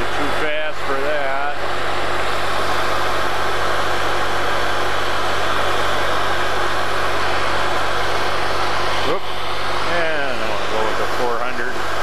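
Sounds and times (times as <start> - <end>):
dust collector air rush: 0.0 - 12.0
low motor hum: 0.0 - 12.0.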